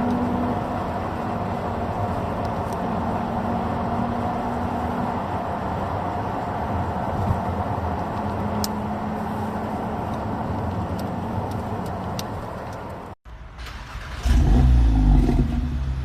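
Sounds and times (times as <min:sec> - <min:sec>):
car engine running steadily: 0:00.0 - 0:13.5.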